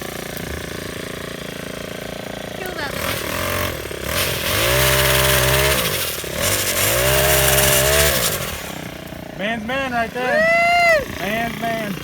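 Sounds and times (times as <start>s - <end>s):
small chainsaw engine revving: 0.0s - 12.0s.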